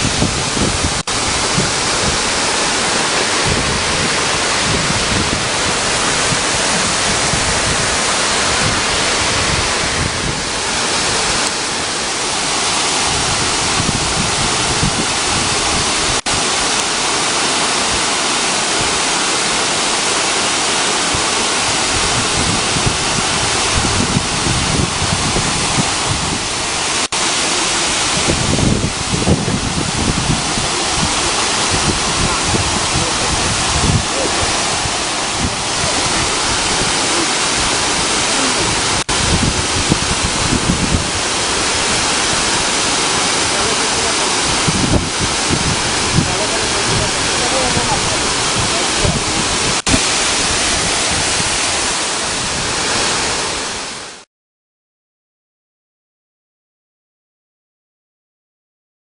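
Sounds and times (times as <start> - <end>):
waterfall rushing: 0.0 - 54.3.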